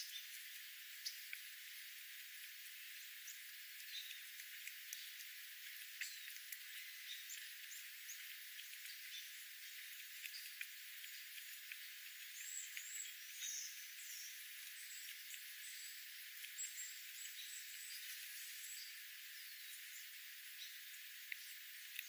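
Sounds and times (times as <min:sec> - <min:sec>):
small birds chirping: 0:00.0 - 0:22.0
steady high hiss: 0:00.0 - 0:22.0.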